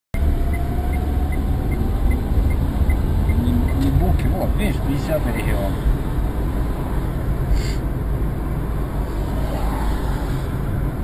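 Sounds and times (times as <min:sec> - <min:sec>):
car engine and road rumble: 0:00.1 - 0:11.0.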